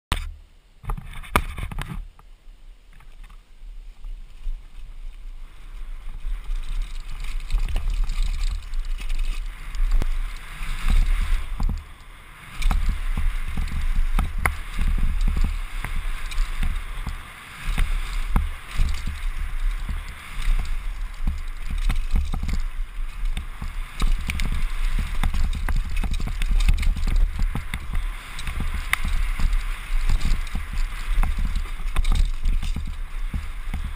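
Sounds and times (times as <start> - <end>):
wind buffeting microphone: 3.7 - 33.9
bike rattling and knocking: 5.6 - 33.9.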